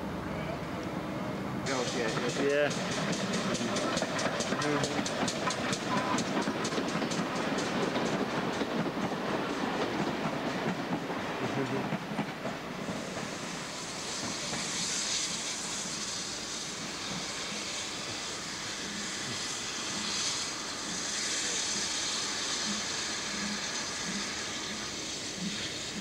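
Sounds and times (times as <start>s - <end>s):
train coaches rolling on track: 0.0s - 26.0s
steam hissing: 1.5s - 26.0s.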